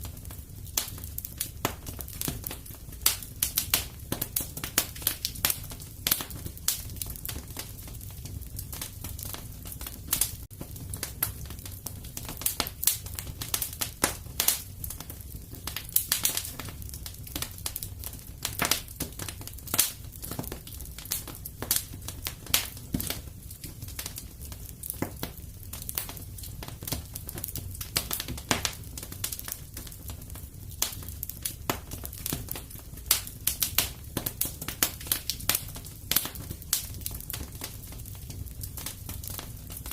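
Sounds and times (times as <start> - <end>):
low rumble of flames: 0.0 - 39.9
wood fire popping and snapping: 0.0 - 39.9.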